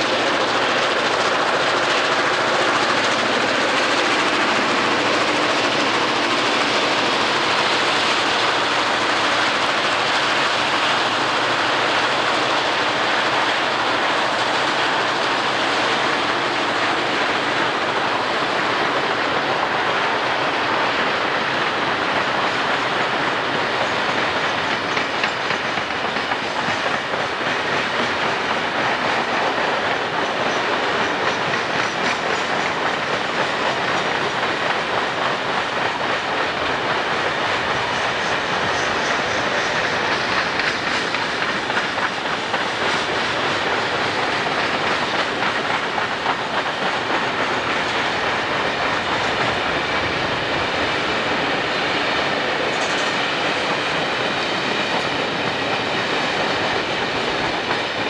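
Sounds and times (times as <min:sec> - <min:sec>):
clickety-clack over rail joints: 0:00.0 - 0:58.0
train wheels rumbling: 0:00.0 - 0:58.0.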